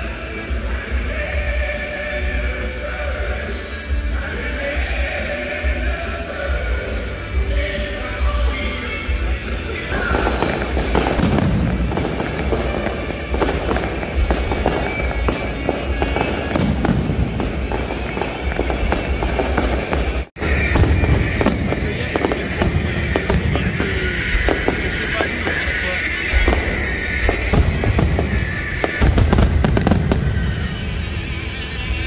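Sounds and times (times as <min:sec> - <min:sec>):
fireworks bangs and crackling: 0:00.0 - 0:31.7.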